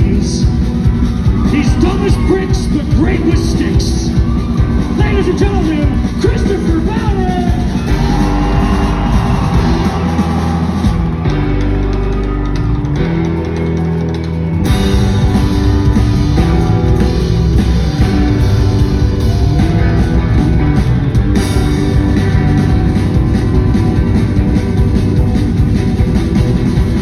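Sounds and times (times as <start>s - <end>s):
drums and cymbals: 0.0s - 27.0s
live country-rock band playing: 0.0s - 27.0s.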